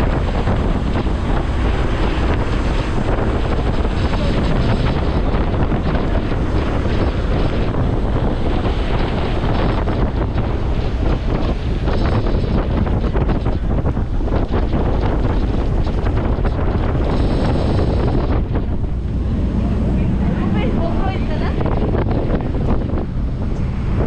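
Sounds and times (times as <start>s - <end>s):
boat rushing through water: 0.0s - 24.0s
wind buffeting microphone: 0.0s - 24.0s.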